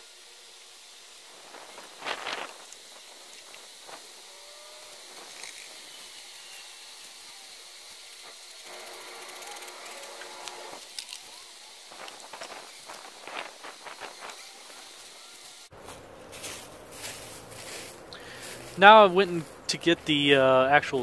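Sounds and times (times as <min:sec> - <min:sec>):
faint buzzing drone: 0:00.0 - 0:21.0.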